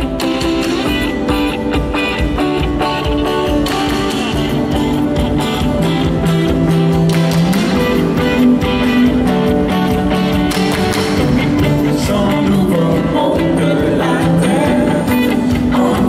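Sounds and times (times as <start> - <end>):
live band playing instrumental: 0.0 - 16.0
strummed guitar: 0.0 - 16.0.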